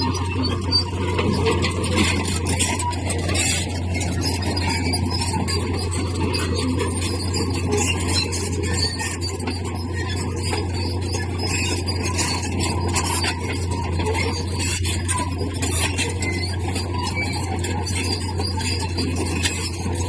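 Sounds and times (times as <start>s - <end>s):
bulldozer engine drone: 0.0s - 20.0s
steel tracks grinding and squealing: 0.0s - 20.0s.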